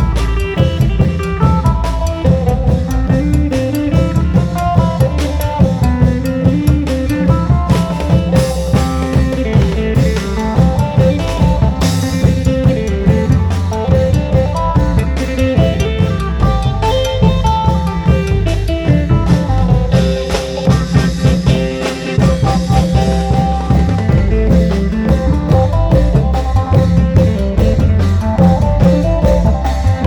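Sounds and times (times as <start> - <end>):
drums and cymbals beat: 0.0 - 30.0.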